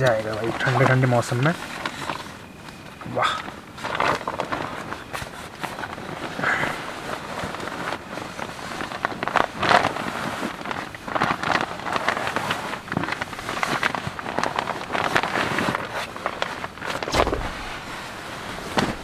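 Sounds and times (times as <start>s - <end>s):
rustles: 0.0s - 19.0s.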